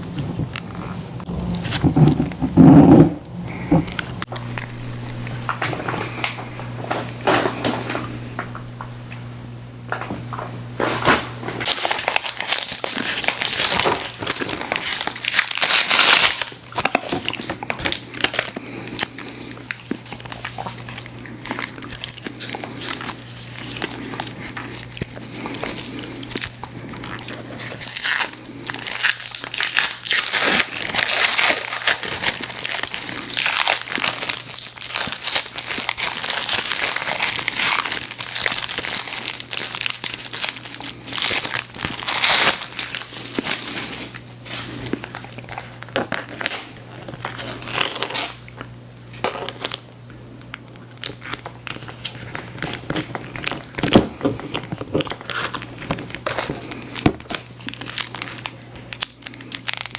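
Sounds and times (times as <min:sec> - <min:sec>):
candy wrapper crinkling and tearing: 0:11.6 - 0:59.9.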